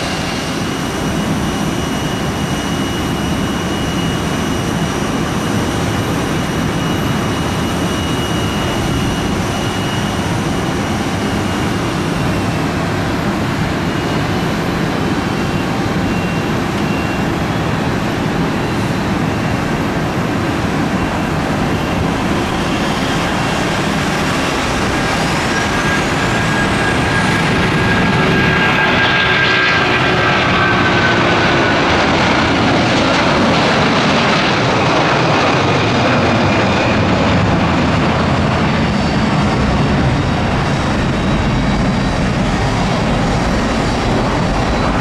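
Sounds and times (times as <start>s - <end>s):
high jet engine whine: 0.0s - 45.0s
jet engines roaring at takeoff: 0.0s - 45.0s.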